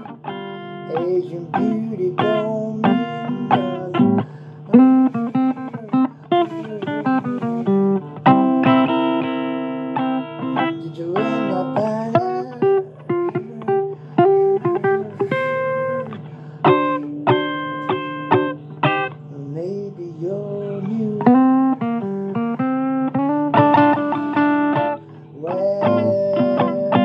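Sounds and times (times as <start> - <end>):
blues guitar: 0.0 - 27.0.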